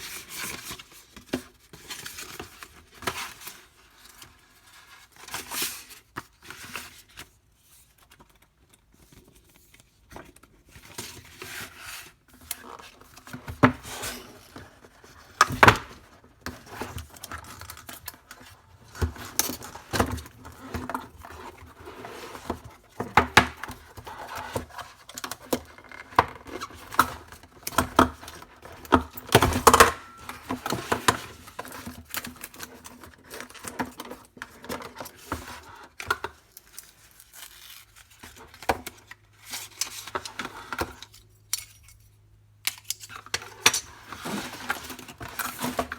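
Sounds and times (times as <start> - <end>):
plastic and paper rustling: 0.0 - 41.3, 43.0 - 45.9.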